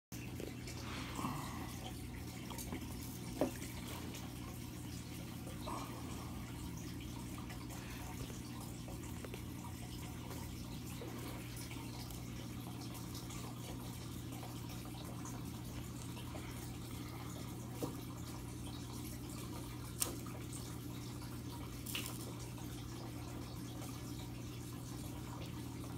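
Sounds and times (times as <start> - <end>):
filter water trickling: 0.2 - 25.9
pump humming: 0.2 - 25.9.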